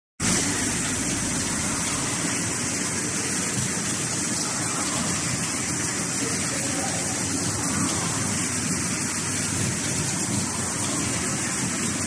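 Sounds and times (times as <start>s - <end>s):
machine running with hiss: 0.2s - 12.0s.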